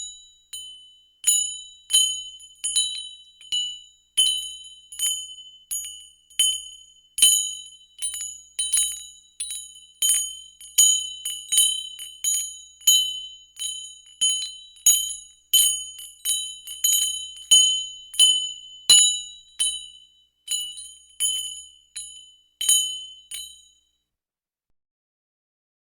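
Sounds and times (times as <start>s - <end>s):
small bell ringing: 0.0s - 24.0s.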